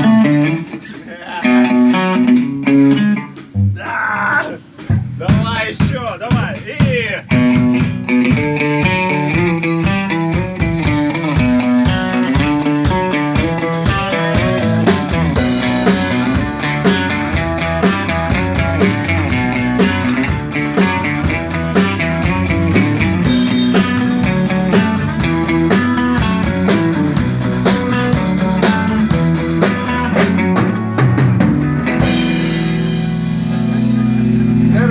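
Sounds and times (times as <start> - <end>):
electric guitar: 0.0 - 5.9, 7.1 - 34.9
bass guitar: 0.0 - 34.9
drum kit: 0.0 - 34.9.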